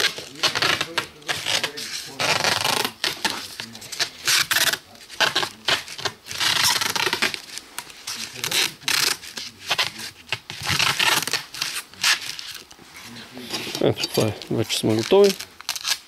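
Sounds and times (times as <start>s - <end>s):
masking tape pulled off roll: 0.0s - 12.8s, 13.4s - 16.0s
tape rubbed down on board: 0.0s - 16.0s.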